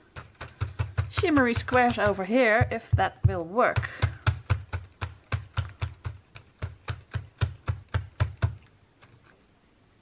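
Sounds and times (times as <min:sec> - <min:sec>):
dauber tapping through stencil: 0:00.0 - 0:09.3.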